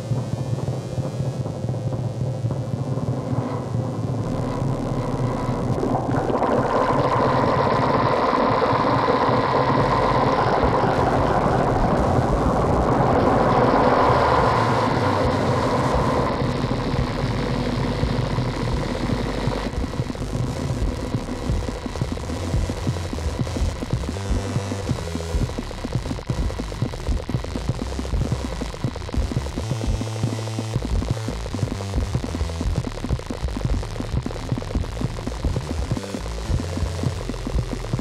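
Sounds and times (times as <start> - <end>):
rumbling droning drum machine wash: 0.0 - 38.0.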